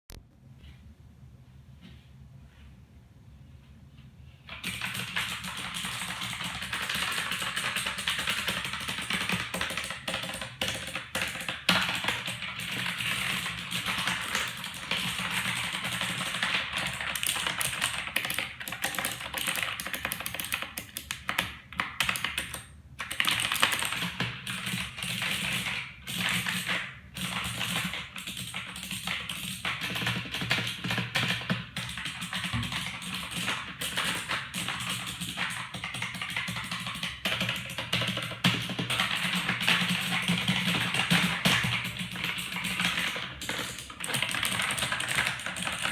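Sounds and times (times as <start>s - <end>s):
typing on computer keyboard: 4.5s - 45.9s.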